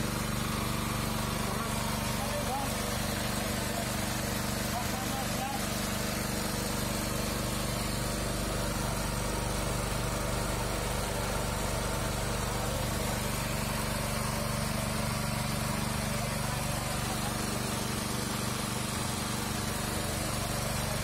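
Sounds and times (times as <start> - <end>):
oil press motor droning: 0.0 - 21.0.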